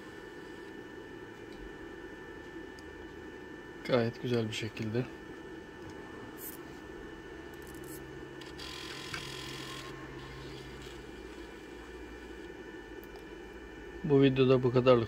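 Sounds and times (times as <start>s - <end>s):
electrical hum with whines: 0.0s - 15.0s.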